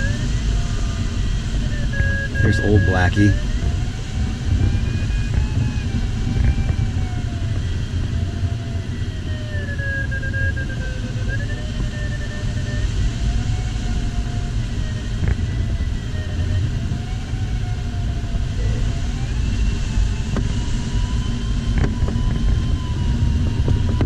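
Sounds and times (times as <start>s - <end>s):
airflow rushing over cockpit: 0.0s - 24.0s
variometer tone wavering: 0.0s - 24.0s.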